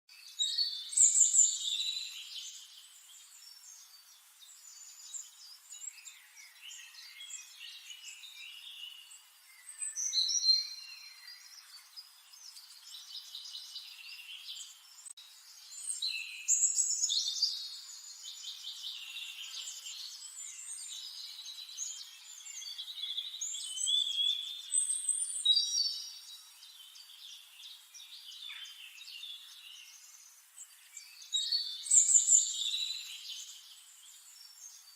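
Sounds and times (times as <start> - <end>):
birds chirping and singing: 0.1 - 34.9.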